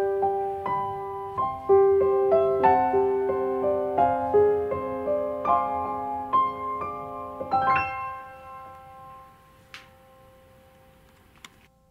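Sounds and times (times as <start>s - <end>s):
gentle piano music: 0.0s - 11.1s.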